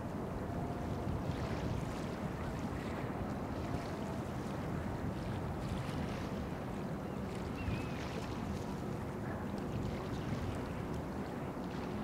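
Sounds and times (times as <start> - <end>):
low rumble from boats: 0.0 - 12.0
wind on microphone: 0.0 - 12.0.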